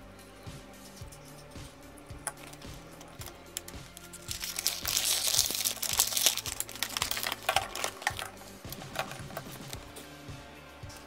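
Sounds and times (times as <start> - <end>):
rustling and crinkling handling: 0.8 - 10.0.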